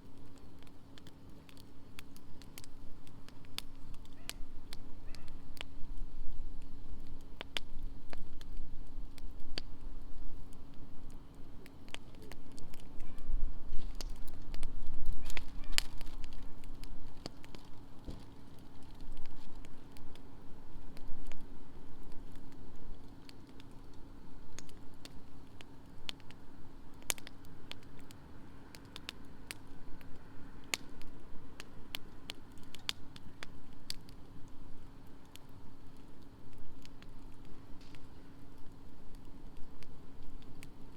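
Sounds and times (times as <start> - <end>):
low fire rumble: 0.0 - 40.9
wood fire crackling and popping: 0.0 - 40.9.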